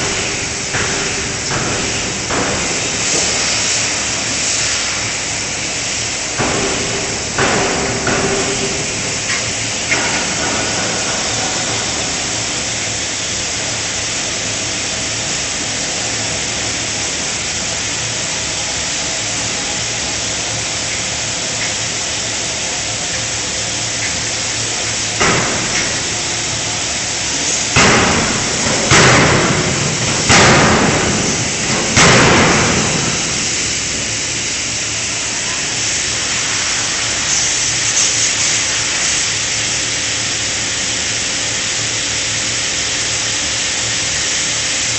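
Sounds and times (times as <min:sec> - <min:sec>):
workshop hiss and hum: 0:00.0 - 0:44.9.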